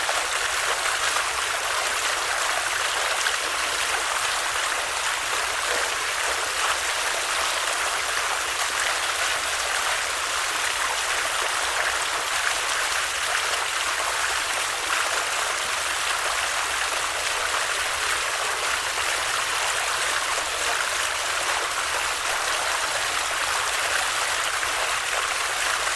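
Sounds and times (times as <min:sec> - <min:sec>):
stream water flowing: 0:00.0 - 0:25.9.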